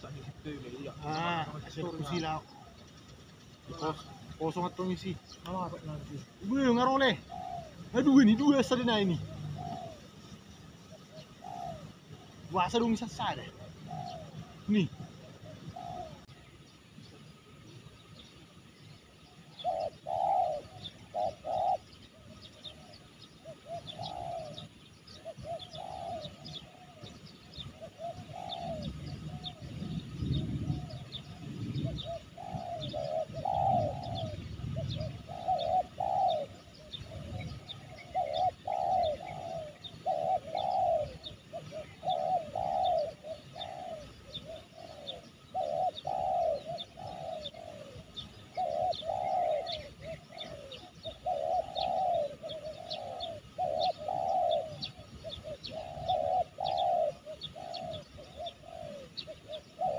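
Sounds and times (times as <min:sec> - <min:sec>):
doves cooing: 0:00.0 - 0:59.9
small birds chirping: 0:00.0 - 0:59.9.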